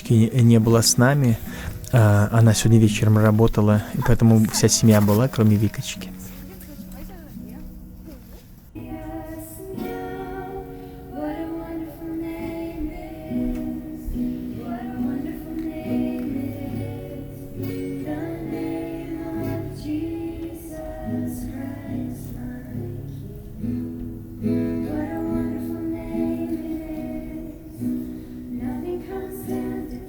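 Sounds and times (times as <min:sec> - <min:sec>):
group of voices singing: 0:00.0 - 0:06.2, 0:08.8 - 0:30.0.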